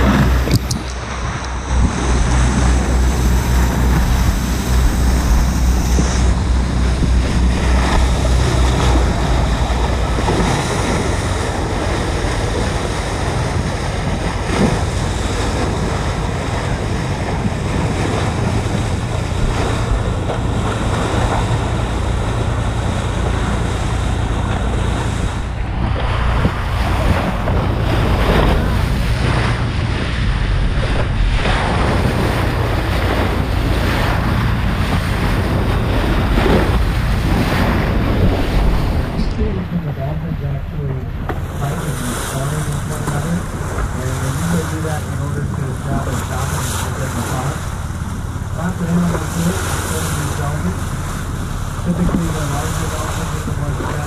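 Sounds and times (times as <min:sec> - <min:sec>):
bow wave rushing along hull: 0:00.0 - 0:54.0
steady low rumble: 0:00.0 - 0:54.0
wind buffeting microphone: 0:00.0 - 0:54.0.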